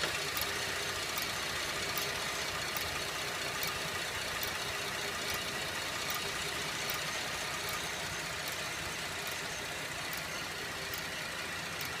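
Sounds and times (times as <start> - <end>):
car engine idling: 0.0 - 12.0
regular metallic tick: 0.0 - 12.0.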